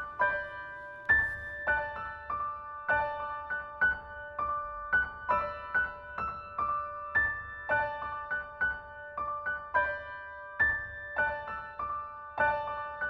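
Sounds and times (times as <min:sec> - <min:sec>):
soft piano melody: 0:00.0 - 0:13.0.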